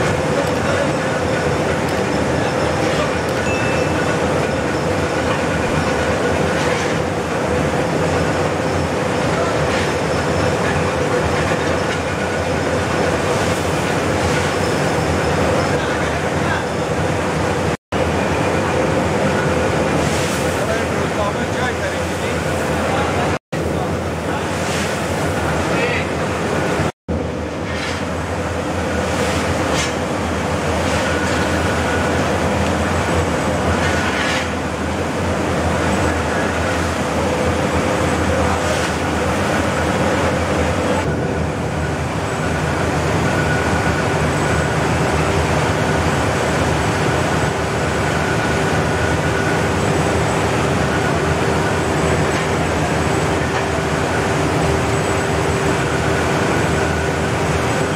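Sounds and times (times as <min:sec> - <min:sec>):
rice mill machinery drone: 0:00.0 - 0:57.9.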